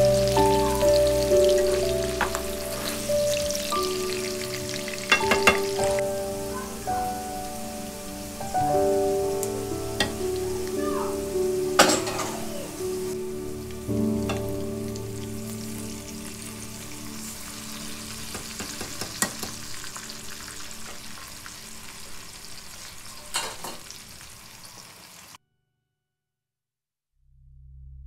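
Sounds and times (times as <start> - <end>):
onions sizzling in oil: 0.0 - 25.4.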